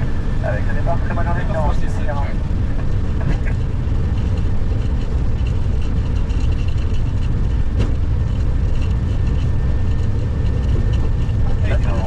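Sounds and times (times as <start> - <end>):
aircraft engine rumble in cockpit: 0.0 - 12.0.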